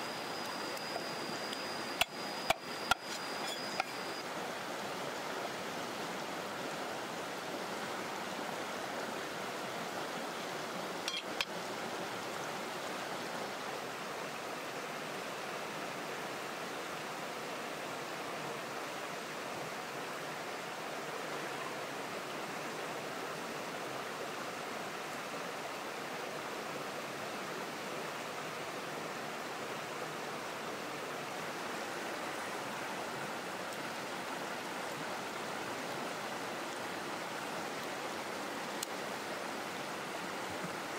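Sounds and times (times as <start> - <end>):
shallow rocky stream rushing: 0.0 - 40.9.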